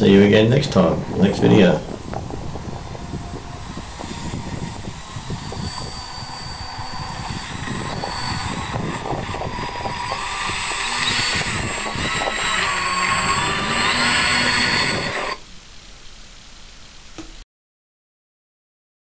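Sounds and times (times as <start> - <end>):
electric motors and propellers whining: 0.0 - 15.5.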